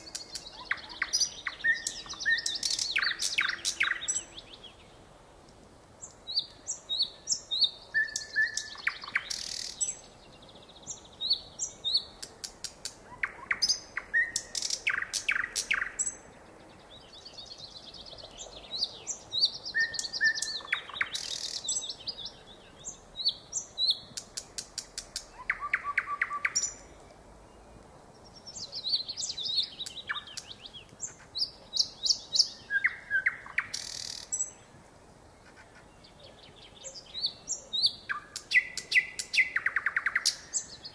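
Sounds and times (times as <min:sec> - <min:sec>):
nightingale singing: 0:00.0 - 0:05.2, 0:06.0 - 0:34.8, 0:35.4 - 0:40.9.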